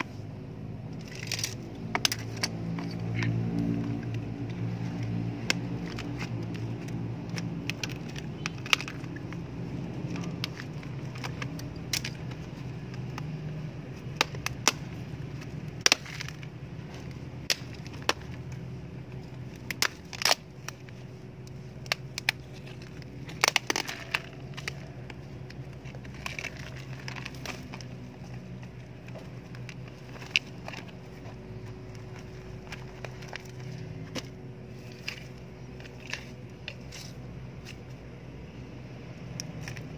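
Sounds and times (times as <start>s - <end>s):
steady low hum: 0.0s - 39.9s
plastic planter cracking: 1.0s - 20.9s, 21.8s - 37.8s.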